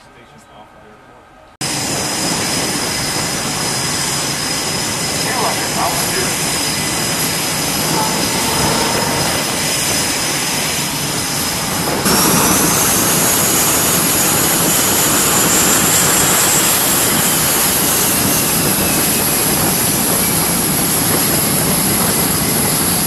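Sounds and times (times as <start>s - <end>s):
jet engines whining: 1.6s - 23.0s.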